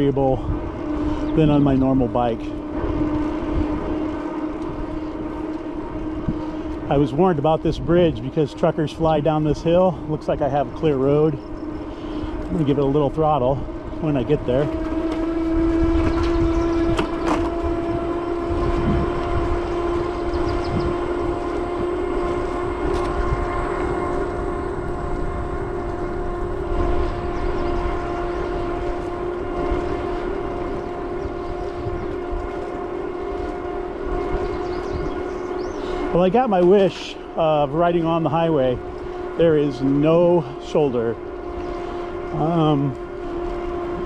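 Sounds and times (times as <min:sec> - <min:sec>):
electric bike motor whining: 0:00.0 - 0:44.0
wind rumbling on microphone: 0:00.0 - 0:44.0.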